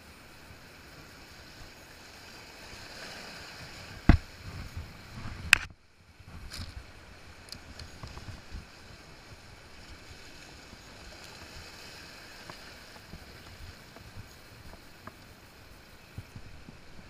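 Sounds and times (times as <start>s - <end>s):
sea surf on rocks: 0.0s - 17.0s
wind rumbling on microphone: 0.0s - 17.0s.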